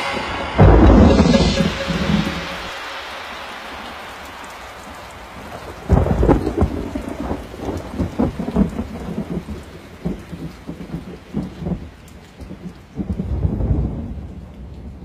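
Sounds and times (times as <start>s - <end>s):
rain hissing: 0.0s - 15.0s
thunderclap rumbling: 0.0s - 15.0s.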